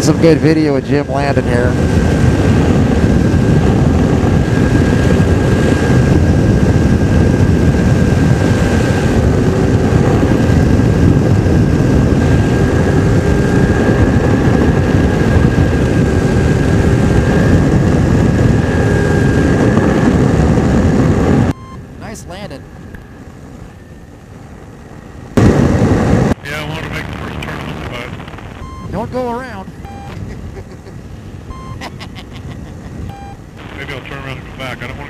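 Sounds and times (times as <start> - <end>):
wind rushing: 0.0 - 22.9, 24.6 - 31.8
light aircraft engine and propeller: 0.0 - 35.0.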